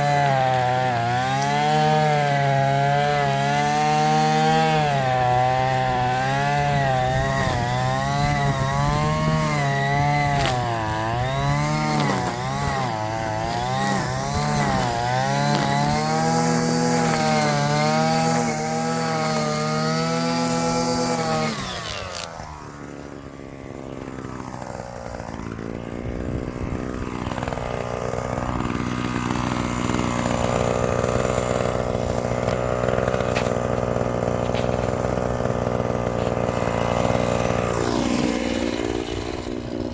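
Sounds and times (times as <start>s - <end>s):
string trimmer engine revving: 0.0s - 39.9s.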